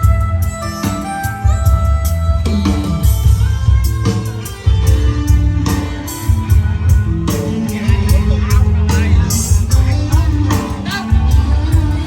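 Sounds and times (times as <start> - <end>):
music with heavy bass and drums: 0.0 - 12.0.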